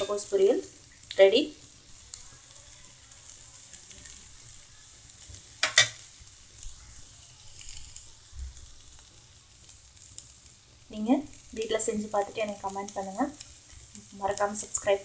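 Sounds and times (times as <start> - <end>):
cabbage sizzling in pan: 0.0 - 15.0.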